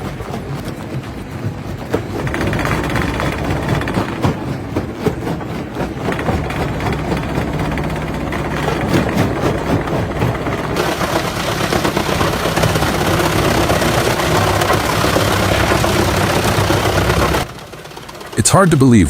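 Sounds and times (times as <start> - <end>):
heavy machinery running: 0.0 - 19.0
low hum: 0.0 - 19.0
machinery knocks: 0.5 - 18.8.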